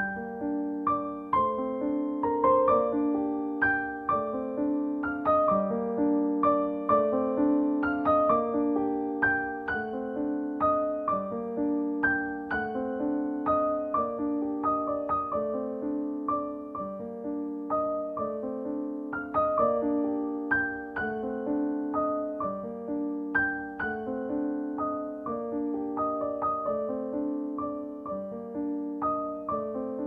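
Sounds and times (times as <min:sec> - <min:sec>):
background piano music: 0:00.0 - 0:30.0.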